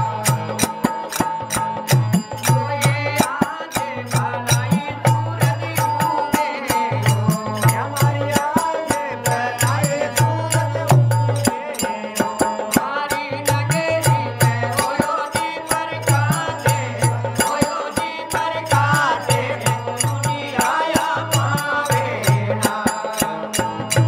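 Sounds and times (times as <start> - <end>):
hand drum rhythm: 0.0 - 24.0
men singing: 0.0 - 24.0.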